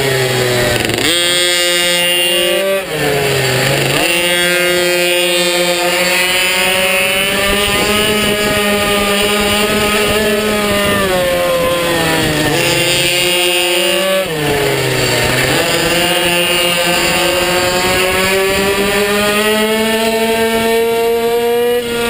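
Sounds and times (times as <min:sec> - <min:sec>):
minibike engine at high revs: 0:00.0 - 0:22.0.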